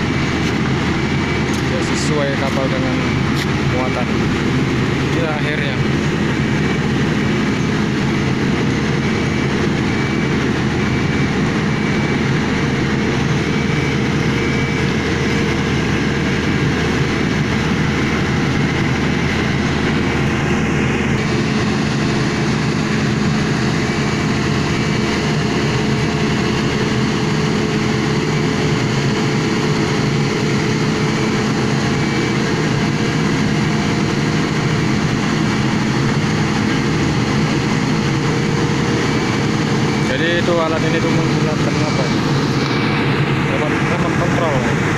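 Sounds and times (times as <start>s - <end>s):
heavy machinery engine droning: 0.0s - 44.9s.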